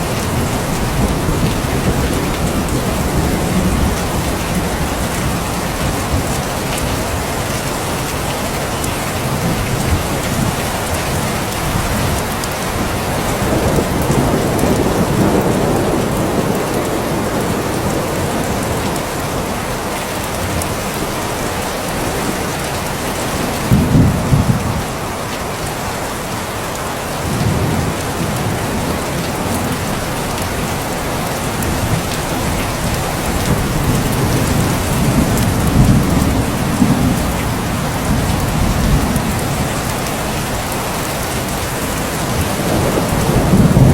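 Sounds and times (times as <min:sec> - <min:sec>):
thunder rumbling: 0:00.0 - 0:25.7, 0:27.1 - 0:43.9
steady rain falling: 0:00.0 - 0:43.9.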